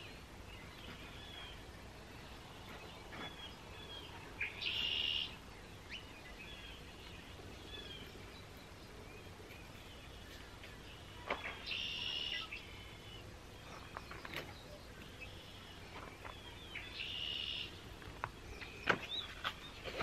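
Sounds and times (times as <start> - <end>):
songbird singing buzzy phrase: 0.0 - 19.9.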